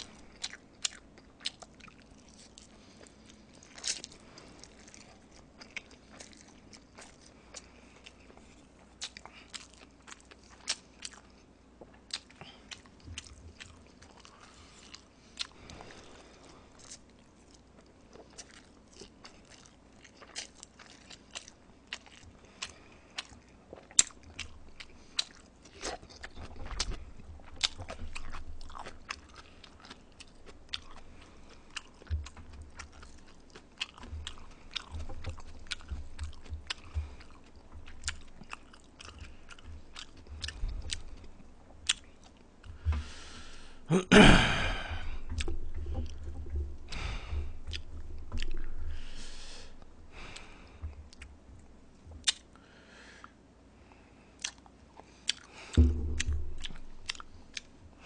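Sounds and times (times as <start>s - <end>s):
chewing noodles: 0.0s - 43.9s, 44.7s - 52.5s, 54.4s - 57.7s.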